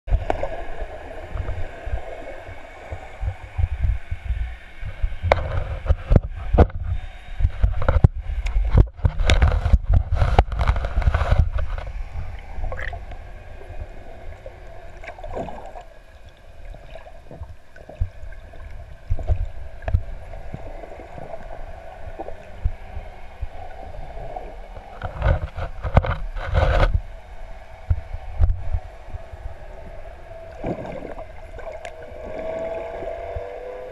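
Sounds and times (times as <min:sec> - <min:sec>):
muffled underwater rumble: 0:00.0 - 0:33.9
water rushing: 0:00.1 - 0:33.9.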